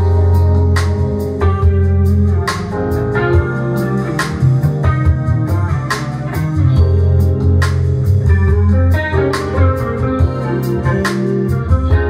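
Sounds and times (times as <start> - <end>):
bass line: 0.0 - 12.0
smooth jazz over loudspeakers: 0.0 - 12.0.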